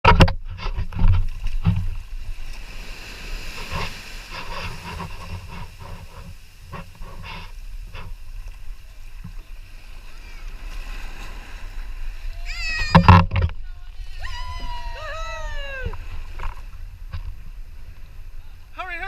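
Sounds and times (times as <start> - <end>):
water splashing against kayak: 0.0 - 19.0.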